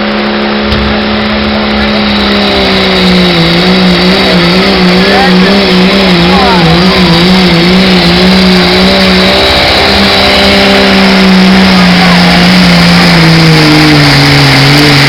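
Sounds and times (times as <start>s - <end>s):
truck engine revving under load: 0.0s - 15.0s.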